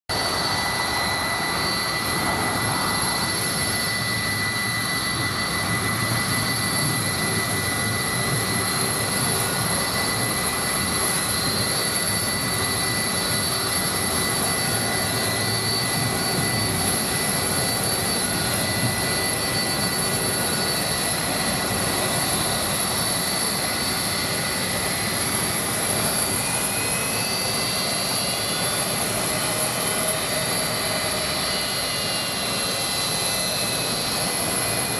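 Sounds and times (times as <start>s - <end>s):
high-pitched turbine whines: 0.0s - 34.9s
jet engine roar: 0.0s - 34.9s.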